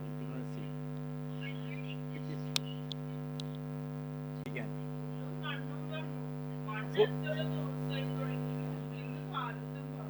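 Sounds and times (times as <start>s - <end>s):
distant voices talking: 0.0s - 3.6s, 4.4s - 10.0s
electrical mains hum: 0.0s - 10.0s.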